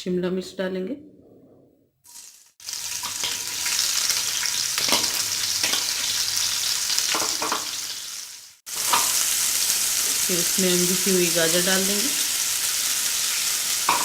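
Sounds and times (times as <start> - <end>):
vegetables sizzling in oil: 2.0 - 14.0.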